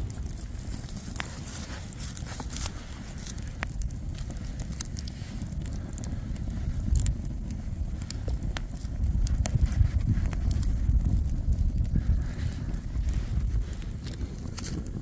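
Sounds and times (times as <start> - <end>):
sharp clicks and crackles: 0.0 - 15.0
wind rumble on microphone: 0.0 - 15.0.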